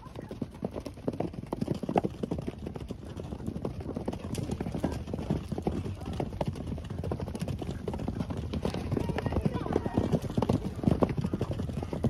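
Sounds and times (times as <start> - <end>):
horses galloping on sand: 0.0 - 12.0.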